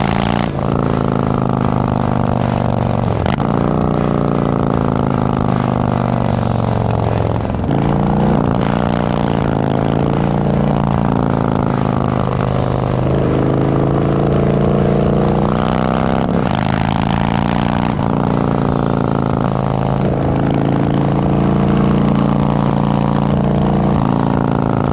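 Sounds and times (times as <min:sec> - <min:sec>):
motorcycle engine under power: 0:00.0 - 0:24.9.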